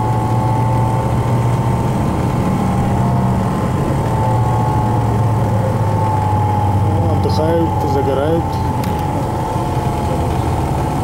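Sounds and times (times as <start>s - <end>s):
bus engine drone: 0.0s - 11.0s
thin constant whine: 0.0s - 11.0s.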